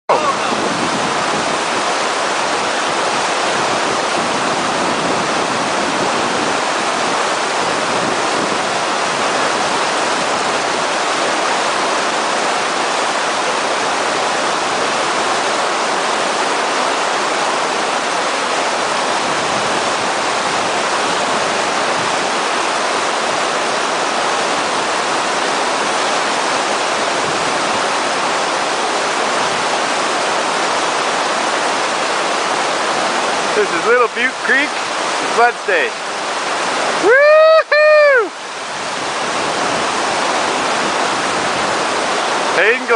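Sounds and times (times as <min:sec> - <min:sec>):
creek rushing through rapids: 0:00.1 - 0:42.9.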